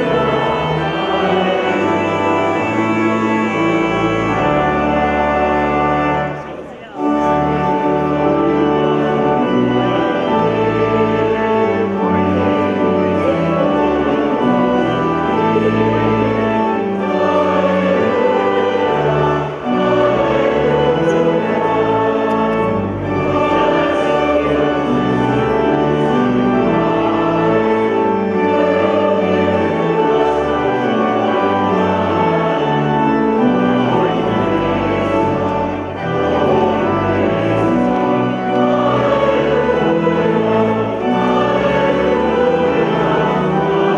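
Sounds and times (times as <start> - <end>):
choir singing: 0.0 - 43.9
organ accompaniment: 0.0 - 43.9.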